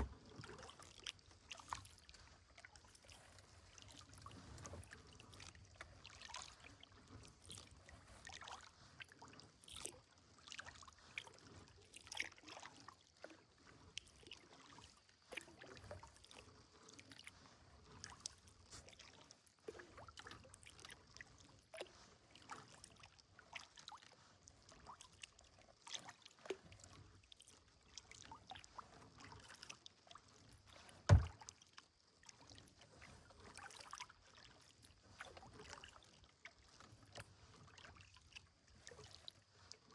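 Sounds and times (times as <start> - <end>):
water drips and splashes: 0.0 - 13.4, 14.0 - 39.8
kayak paddle in water: 0.0 - 39.9.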